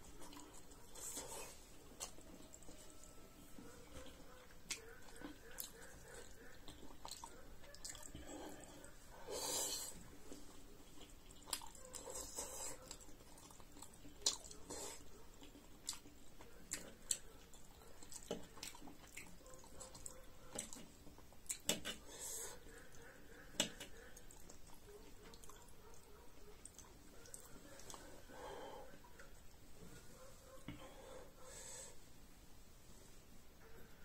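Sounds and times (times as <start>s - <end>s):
person chewing food: 0.0s - 29.6s.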